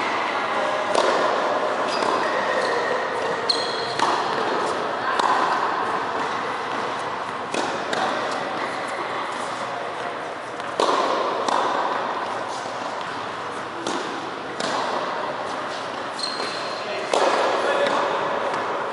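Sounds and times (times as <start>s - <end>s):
tennis balls bouncing on court: 0.7s - 18.9s
tennis balls struck by rackets: 0.7s - 18.9s.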